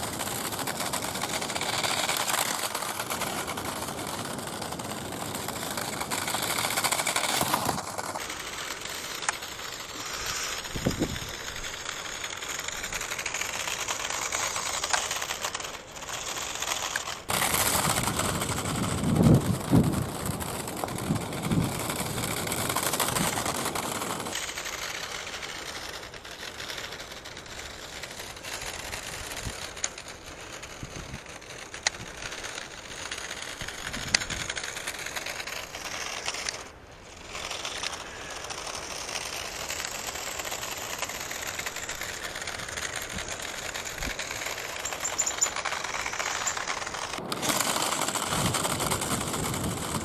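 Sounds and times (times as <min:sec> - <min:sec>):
small electric motor running: 0:00.0 - 0:50.0
toy car body rattling: 0:00.0 - 0:50.0.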